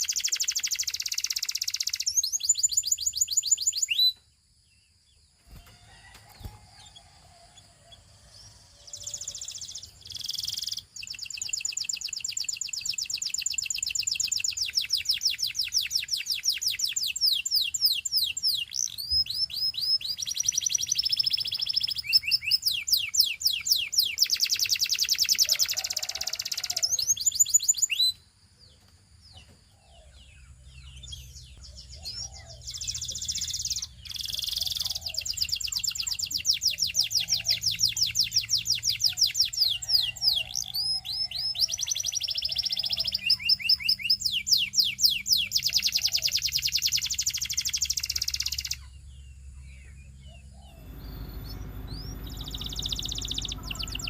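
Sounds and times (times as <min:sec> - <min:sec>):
canary singing trills: 0:00.0 - 0:28.2, 0:29.3 - 0:54.0.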